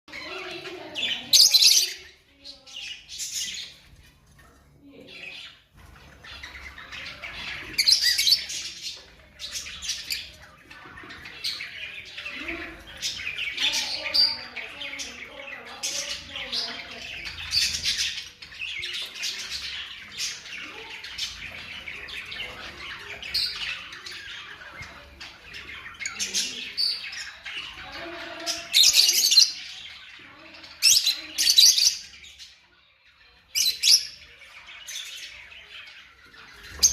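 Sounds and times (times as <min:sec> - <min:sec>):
lovebirds chattering: 0:00.1 - 0:36.9
shrill bird chirps and squawks: 0:00.1 - 0:36.9.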